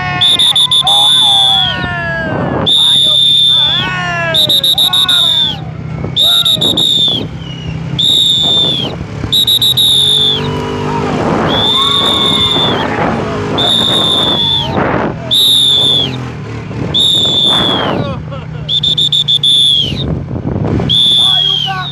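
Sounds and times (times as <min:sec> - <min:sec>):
whistle blasts: 0:00.1 - 0:01.9, 0:02.7 - 0:05.6, 0:06.2 - 0:12.9, 0:13.5 - 0:16.3, 0:16.9 - 0:18.0, 0:18.7 - 0:20.1, 0:20.9 - 0:21.9.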